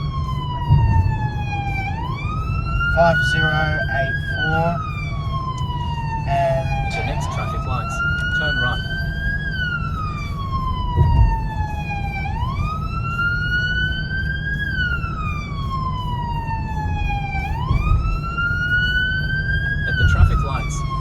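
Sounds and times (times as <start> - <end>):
emergency siren wailing: 0.0 - 21.0
low vehicle rumble: 0.0 - 21.0.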